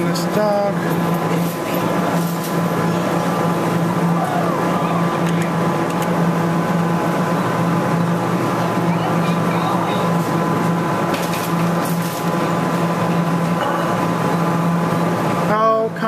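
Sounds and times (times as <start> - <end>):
claw crane electric hum: 0.0 - 16.0.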